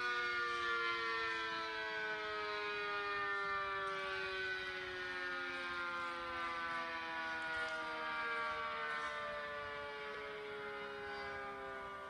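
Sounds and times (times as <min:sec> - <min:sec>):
civil defense siren falling in pitch: 0:00.0 - 0:12.0.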